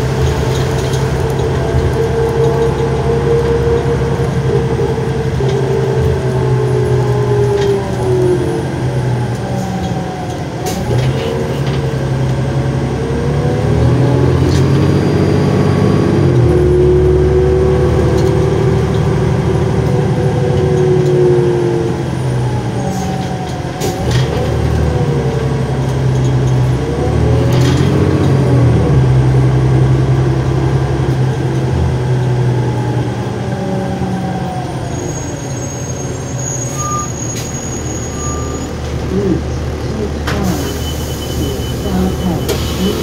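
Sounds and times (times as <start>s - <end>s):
bus diesel engine running: 0.0s - 43.0s.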